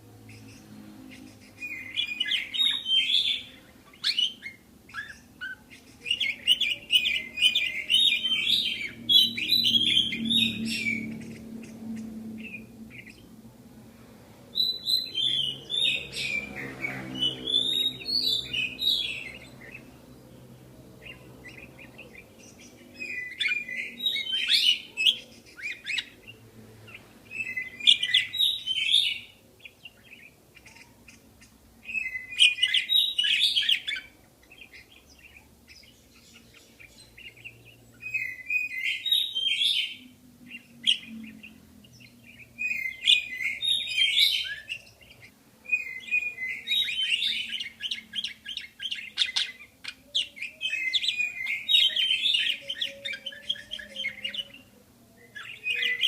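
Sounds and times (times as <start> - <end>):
budgerigars chirping and warbling: 0.0 - 13.4, 14.0 - 56.0.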